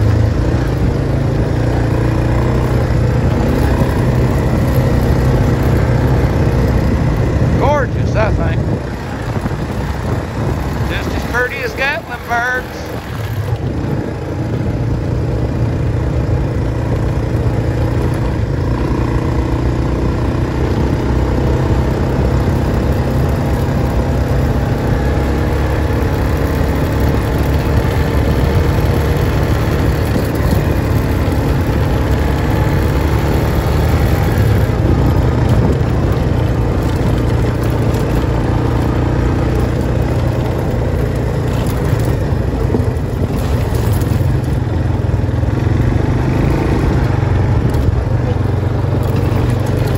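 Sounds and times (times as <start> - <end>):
vehicle engine rumbling: 0.0 - 49.9.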